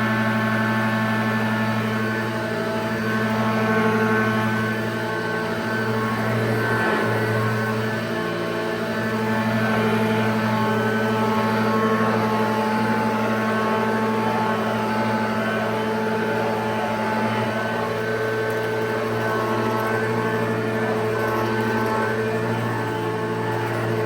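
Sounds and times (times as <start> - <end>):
upright vacuum cleaner motor hum: 0.0 - 24.0.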